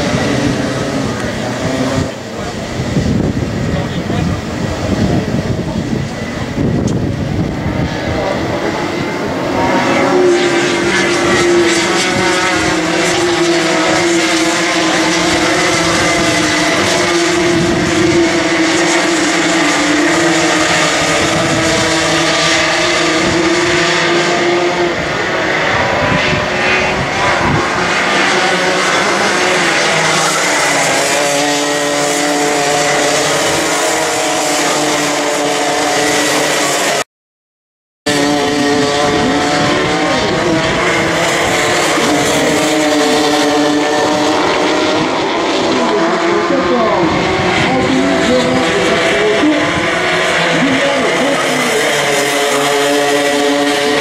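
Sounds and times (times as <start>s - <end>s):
racing kart engines buzzing: 0.0s - 37.0s, 38.0s - 54.0s.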